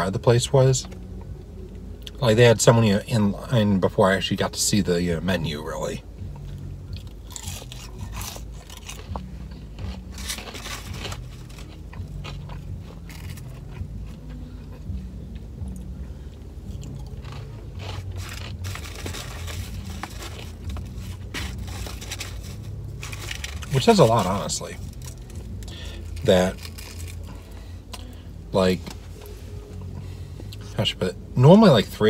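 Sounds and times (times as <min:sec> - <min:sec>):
chewing and crunching fries: 0:00.0 - 0:32.0
low steady hum: 0:00.0 - 0:32.0.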